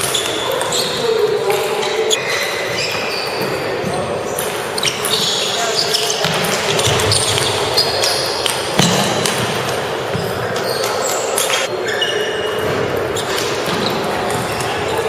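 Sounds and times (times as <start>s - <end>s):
busy hall din: 0.0s - 15.0s.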